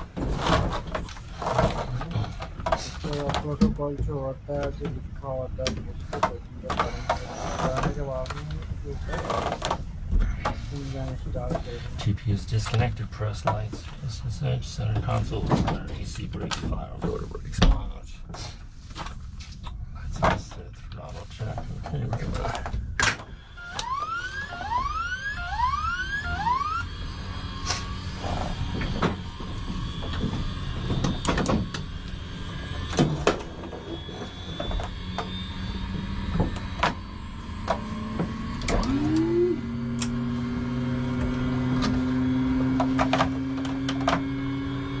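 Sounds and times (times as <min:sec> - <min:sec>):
turbine starter whine: 0:00.0 - 0:45.0.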